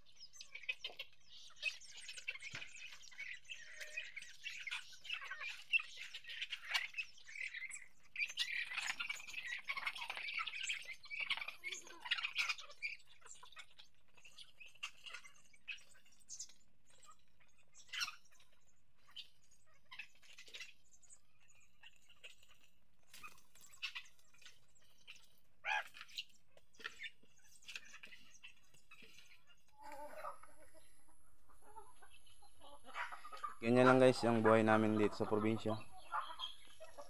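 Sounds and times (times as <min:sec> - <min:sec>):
chickens chirping and clucking: 0:00.0 - 0:37.0.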